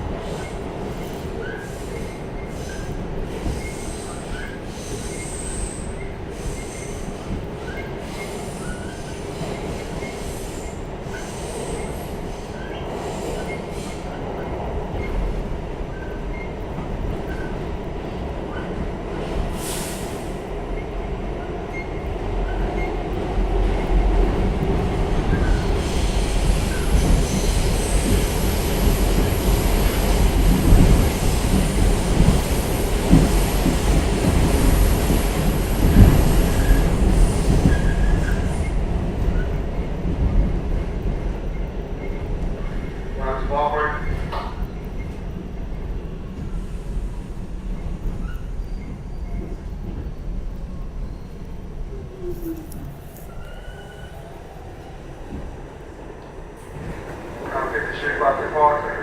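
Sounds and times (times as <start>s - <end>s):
subway wheels rumbling on rails: 0.0s - 59.0s.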